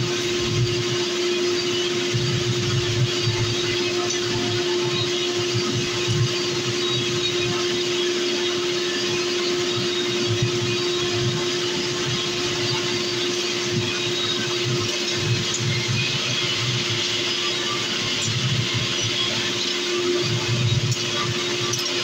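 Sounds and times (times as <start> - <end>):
electric blower hum and air rush: 0.0 - 22.0.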